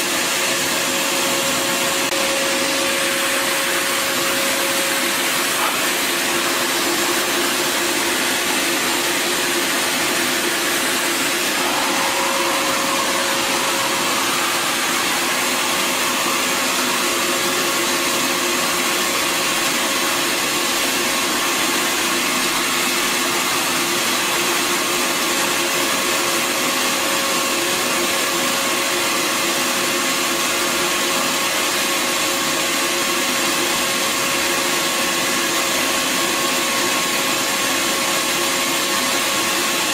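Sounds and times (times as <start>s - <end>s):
vacuum motor whining hum: 0.0s - 39.9s.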